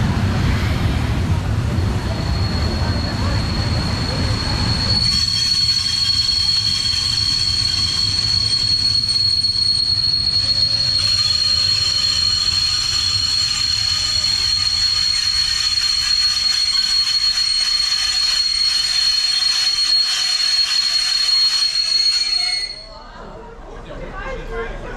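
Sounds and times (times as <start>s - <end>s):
train brakes squealing: 1.8s - 23.2s.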